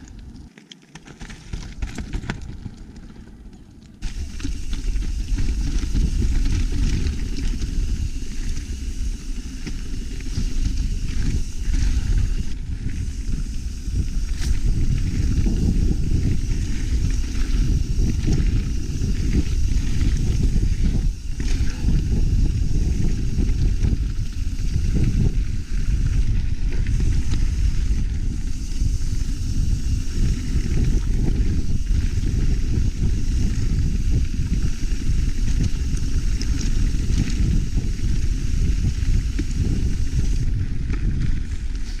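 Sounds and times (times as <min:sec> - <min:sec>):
bike knocks and rattles: 0:01.0 - 0:42.0
tyre rumble on trail: 0:01.1 - 0:42.0
wind buffeting: 0:04.0 - 0:42.0.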